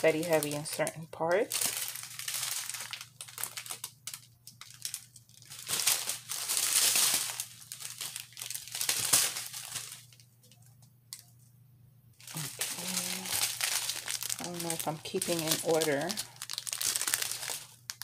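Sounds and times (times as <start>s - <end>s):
plastic bags crinkling: 0.0s - 11.2s, 12.2s - 18.0s.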